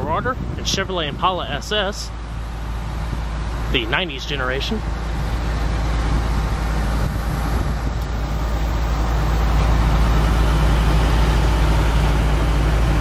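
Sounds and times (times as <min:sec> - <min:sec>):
car engine idling rumble: 0:00.0 - 0:13.0.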